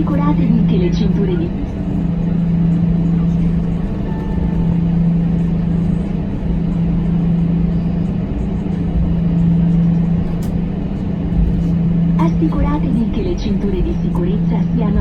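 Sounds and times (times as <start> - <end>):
airplane cabin drone: 0.0 - 15.0.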